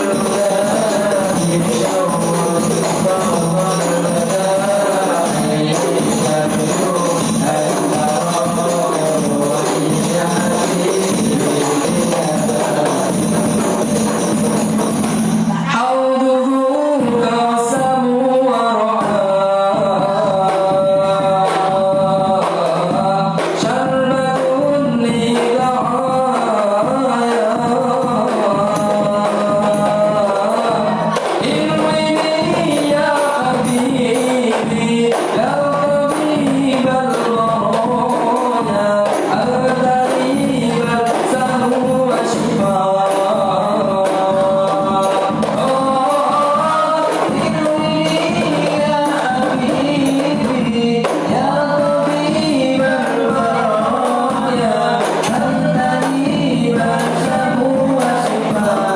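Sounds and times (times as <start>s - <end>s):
frame drums beating: 0.0s - 15.8s, 16.9s - 58.9s
group singing: 0.0s - 58.9s.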